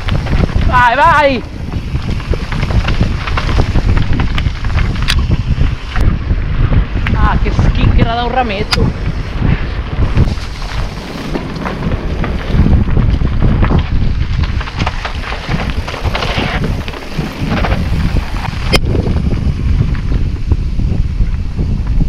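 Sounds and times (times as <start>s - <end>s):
bike rattling over rough ground: 0.0s - 22.0s
wind buffeting microphone: 0.0s - 22.0s.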